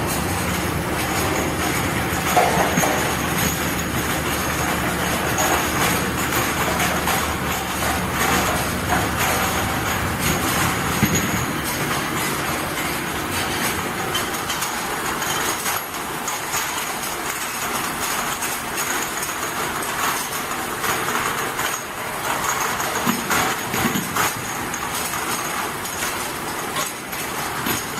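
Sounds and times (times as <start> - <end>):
washing machine clatter: 0.0 - 27.9.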